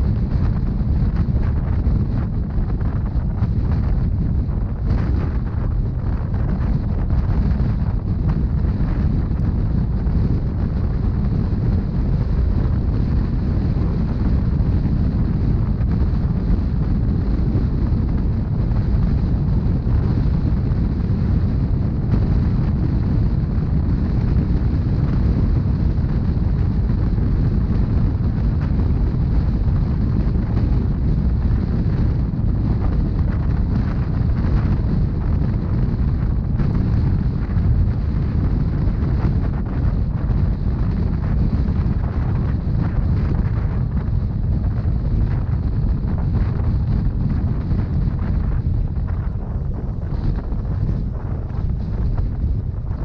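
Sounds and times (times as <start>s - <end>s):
train rumble on board: 0.0s - 53.0s
wind noise: 0.0s - 53.0s.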